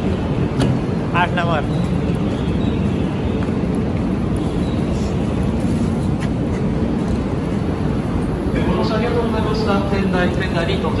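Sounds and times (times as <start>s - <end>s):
crowded platform rumble: 0.0s - 11.0s.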